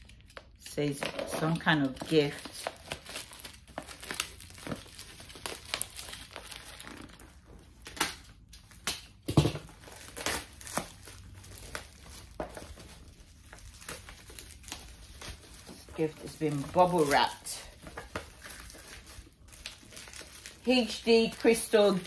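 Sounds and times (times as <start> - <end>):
packaging crinkling: 0.0 - 22.0.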